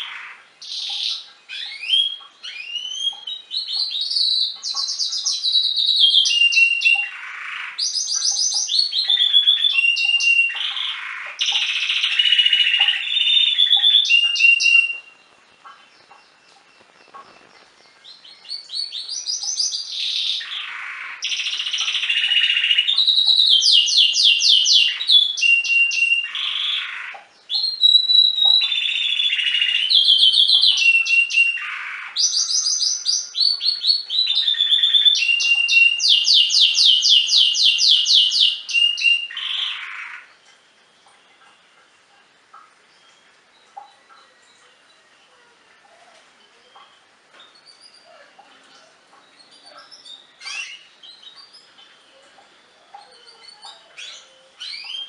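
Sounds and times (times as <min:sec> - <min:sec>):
canary singing rapid trills: 0:00.0 - 0:55.0.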